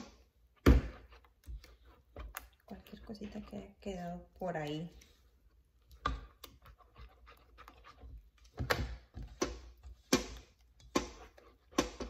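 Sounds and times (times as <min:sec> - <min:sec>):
spatula stirring thick batter: 0:00.0 - 0:12.0.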